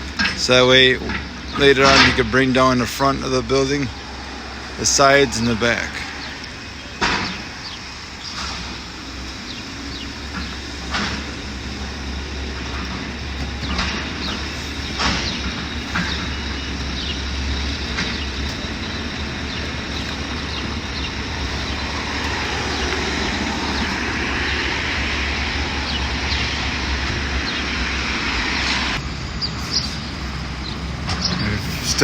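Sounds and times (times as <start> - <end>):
excavator rumbling: 0.0 - 32.0.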